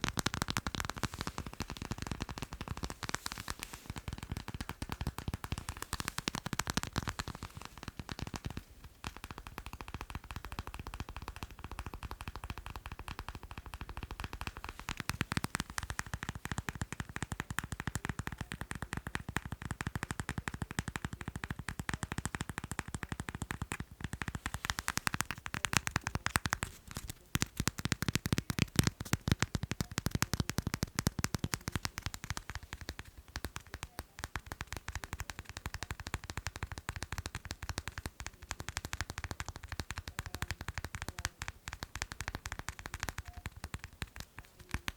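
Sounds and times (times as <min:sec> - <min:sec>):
rapid light tapping: 0:00.0 - 0:44.9.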